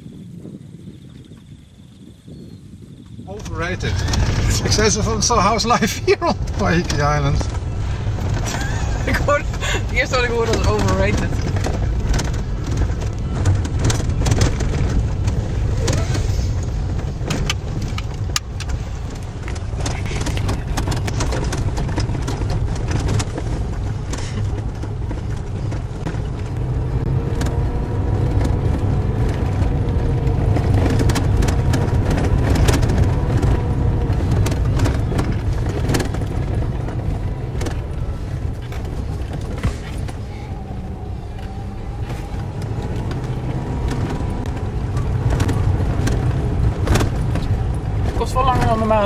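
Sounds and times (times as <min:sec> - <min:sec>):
car engine and tyres rumbling: 0:00.0 - 0:49.0
clicks and knocks from road: 0:03.0 - 0:49.0.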